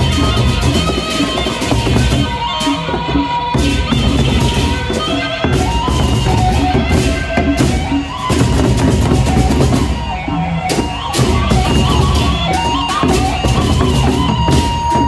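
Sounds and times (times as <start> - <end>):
melodic instrument playing a tune: 0.0 - 15.0.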